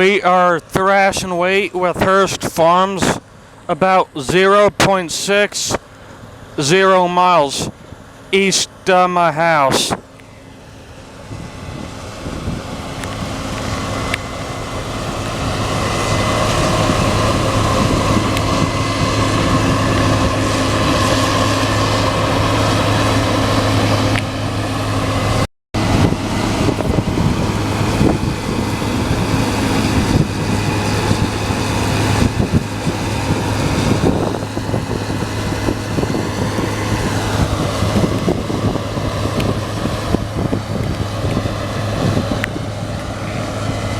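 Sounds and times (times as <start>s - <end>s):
combine harvester threshing: 0.0s - 43.9s.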